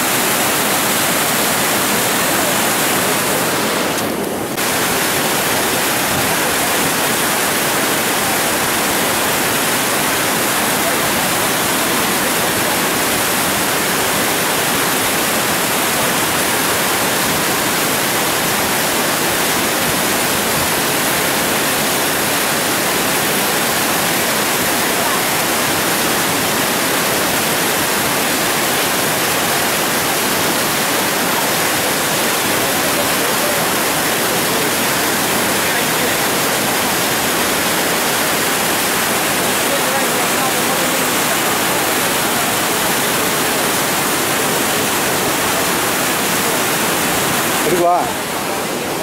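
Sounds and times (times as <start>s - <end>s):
water rushing under sluice gate: 0.0s - 49.0s.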